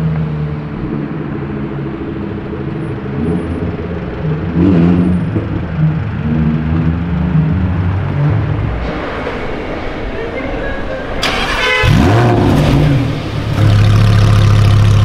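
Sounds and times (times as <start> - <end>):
car engine revving: 0.0 - 9.9, 11.2 - 15.0.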